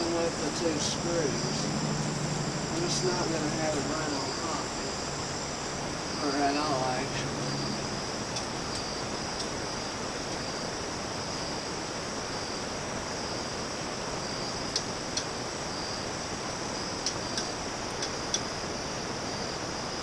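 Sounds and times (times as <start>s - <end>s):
crickets chirring: 0.0s - 20.0s
steady even hiss: 0.0s - 20.0s.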